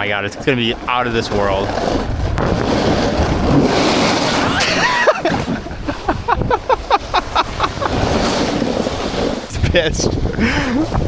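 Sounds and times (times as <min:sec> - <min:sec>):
skis scraping over snow: 0:00.0 - 0:11.0
wind buffeting microphone: 0:00.0 - 0:11.0.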